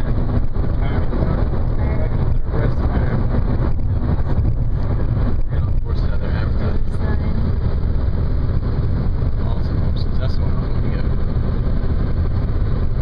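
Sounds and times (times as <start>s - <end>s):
car engine and road noise: 0.0s - 13.0s
wind noise: 0.0s - 13.0s.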